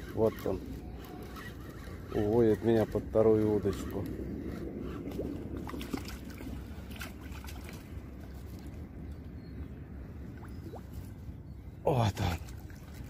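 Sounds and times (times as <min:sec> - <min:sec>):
water sloshing and splashing: 0:00.0 - 0:09.1, 0:10.2 - 0:11.4, 0:12.0 - 0:13.0.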